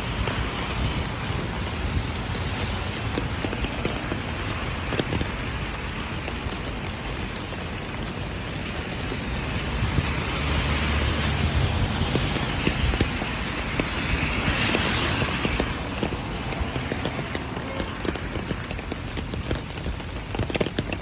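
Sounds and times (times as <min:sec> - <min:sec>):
rain drop ticks: 0:00.0 - 0:21.0
steady rain: 0:00.0 - 0:21.0.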